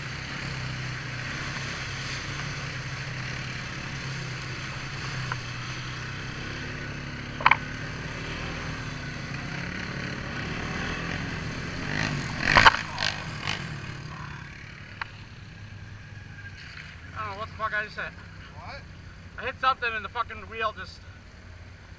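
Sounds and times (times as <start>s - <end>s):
quad bike engine running: 0.0s - 20.4s.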